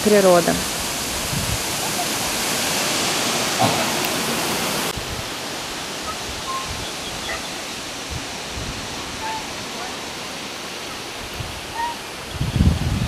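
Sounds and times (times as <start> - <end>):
outdoor noise hiss: 0.0 - 13.0.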